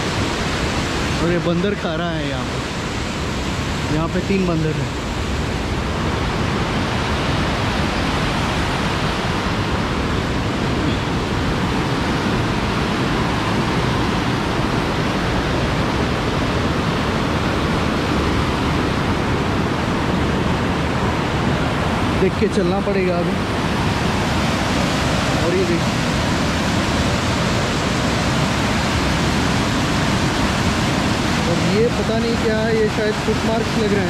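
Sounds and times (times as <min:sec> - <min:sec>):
small waterfall rushing: 0:00.0 - 0:34.0.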